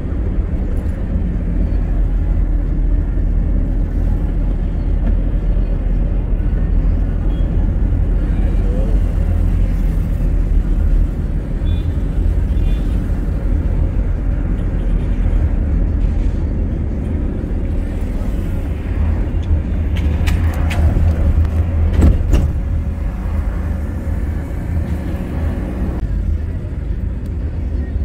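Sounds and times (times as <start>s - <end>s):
car driving rumble: 0.0s - 28.0s.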